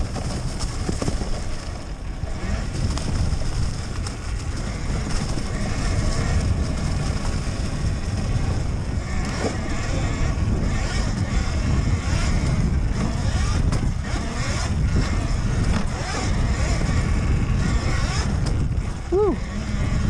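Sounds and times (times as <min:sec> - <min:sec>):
tyres and chassis rattling: 0:00.0 - 0:19.1
wind rumble on microphone: 0:00.0 - 0:20.0.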